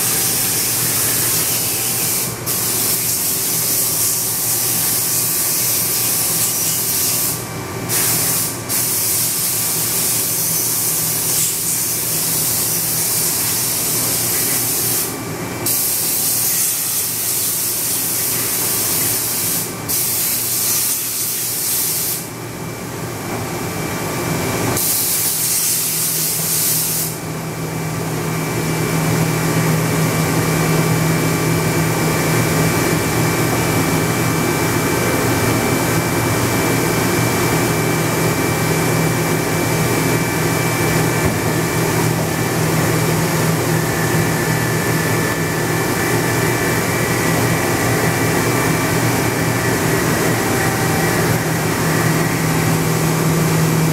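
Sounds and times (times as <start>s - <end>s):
steady machine hum: 0.0s - 20.6s, 25.9s - 53.9s
loud machine hissing: 0.0s - 22.4s, 24.8s - 27.3s, 30.5s - 53.9s.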